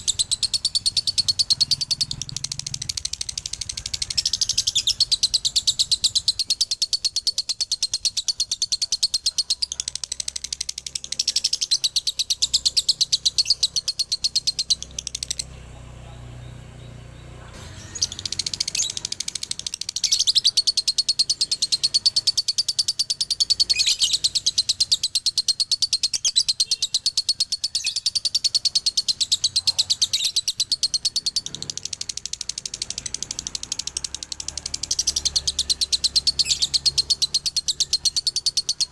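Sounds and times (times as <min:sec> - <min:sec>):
lovebird chattering trill: 0:00.0 - 0:15.6, 0:17.7 - 0:38.9.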